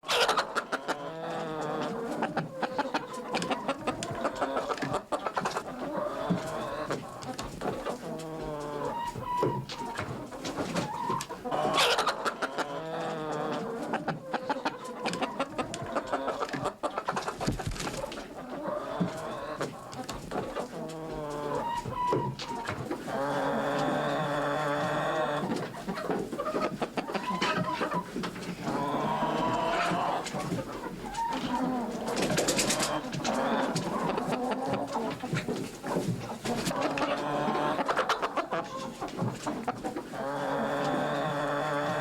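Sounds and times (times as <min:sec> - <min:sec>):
chickens clucking: 0:00.0 - 0:42.0
chickens scratching and pecking: 0:00.0 - 0:42.0.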